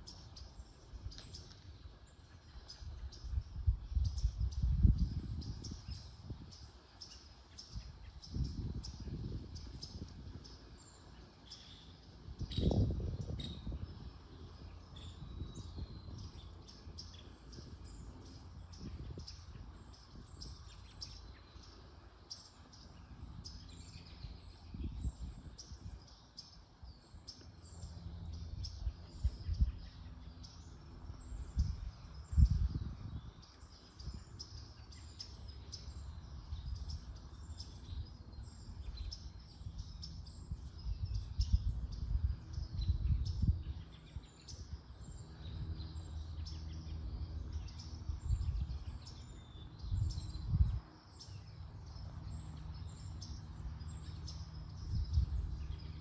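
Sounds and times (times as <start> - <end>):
songbirds chirping: 0.0 - 56.0
wind rumbling on microphone: 0.0 - 56.0.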